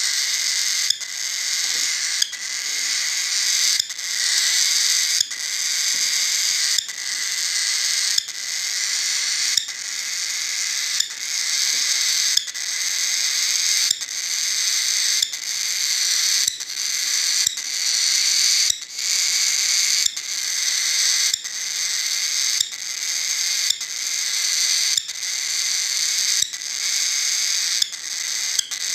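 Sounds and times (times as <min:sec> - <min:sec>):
cockatiel chirping: 0:00.1 - 0:14.0, 0:14.6 - 0:28.9.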